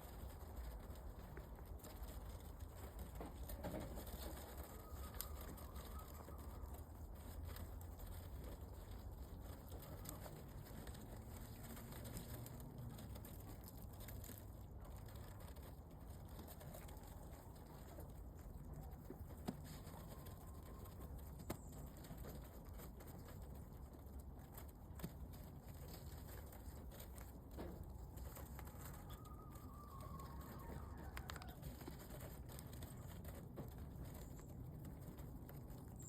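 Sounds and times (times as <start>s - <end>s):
low background hum: 0.0s - 36.0s.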